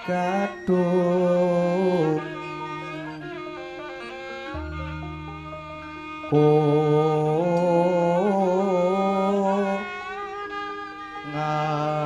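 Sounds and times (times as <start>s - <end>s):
man chanting with wavering pitch: 0.0s - 3.9s, 4.6s - 10.3s, 11.2s - 12.0s
quiet instrumental accompaniment: 0.0s - 12.0s.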